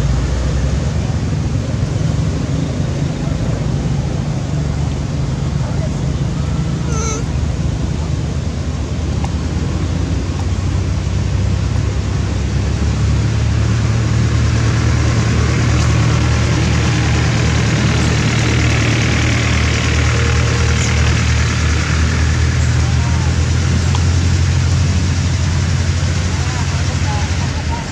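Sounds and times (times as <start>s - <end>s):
vehicle engine humming: 0.0s - 27.9s.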